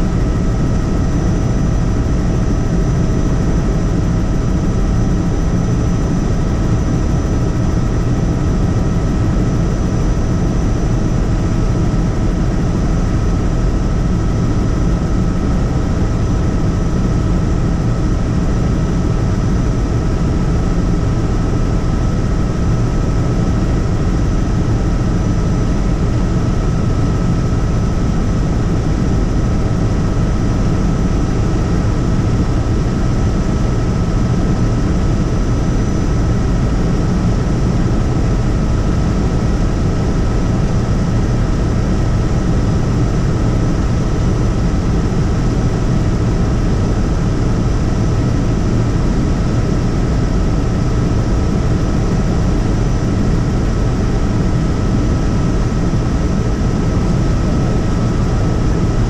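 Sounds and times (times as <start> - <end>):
helicopter rotor and engine: 0.0 - 59.0
steady high whine: 0.0 - 59.0.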